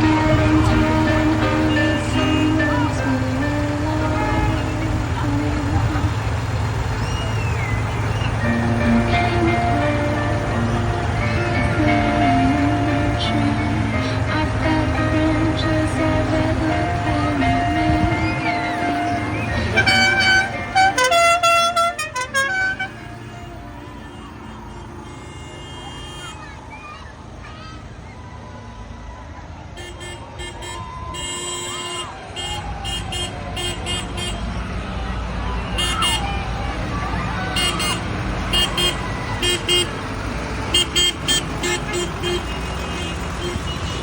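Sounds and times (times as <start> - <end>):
musical vehicle horn: 0.0 - 26.6, 29.8 - 44.0
vehicle engine running: 0.0 - 44.0.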